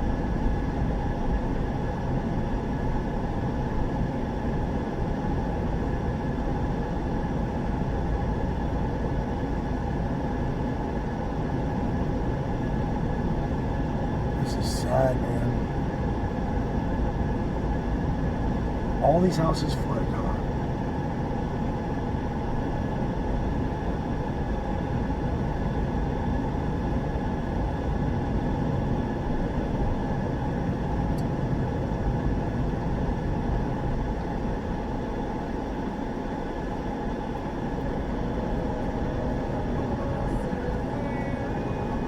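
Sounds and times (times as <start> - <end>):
road and engine rumble in car: 0.0 - 42.0.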